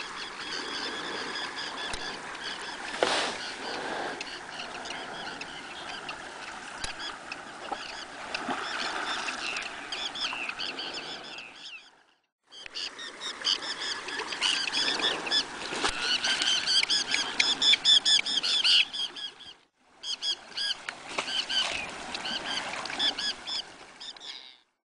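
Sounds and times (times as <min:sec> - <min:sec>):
terns calling: 0:00.0 - 0:24.7.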